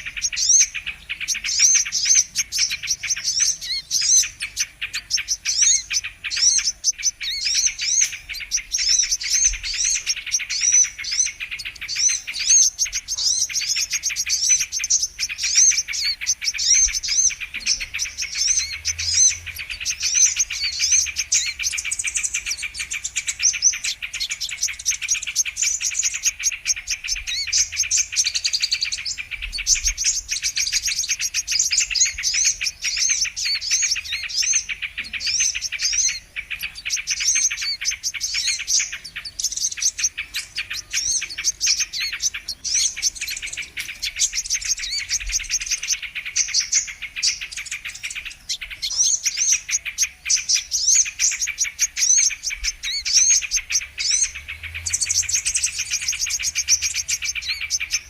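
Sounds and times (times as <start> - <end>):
bird rapid high chirps and trills: 0.0 - 58.0.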